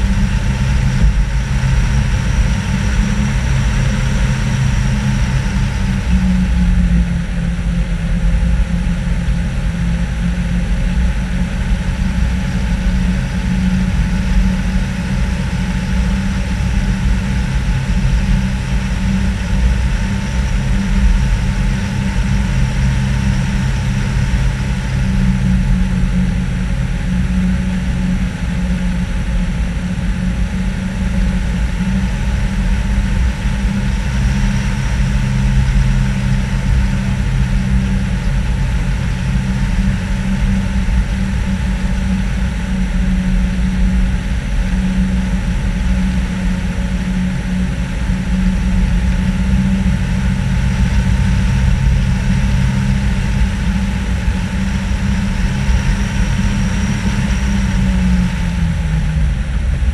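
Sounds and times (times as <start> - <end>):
car engine droning: 0.0 - 59.9
wind noise: 0.0 - 59.9.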